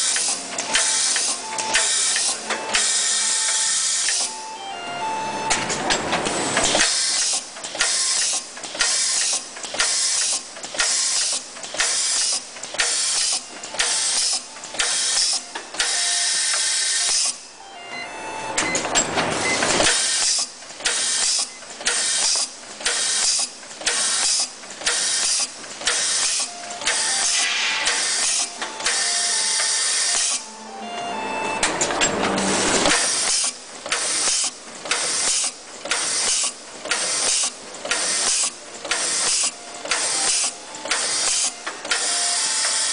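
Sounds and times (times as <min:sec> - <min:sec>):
machine hissing mechanically: 0:00.0 - 0:04.3, 0:06.2 - 0:17.4, 0:19.3 - 0:30.5, 0:31.9 - 0:42.9.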